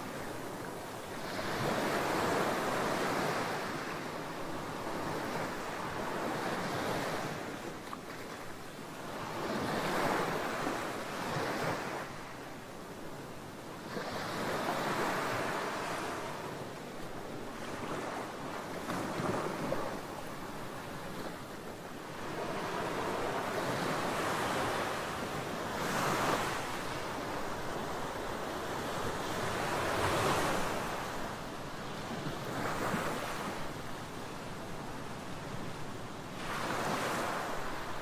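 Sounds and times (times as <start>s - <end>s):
waves washing on sandy beach: 0.0s - 38.0s.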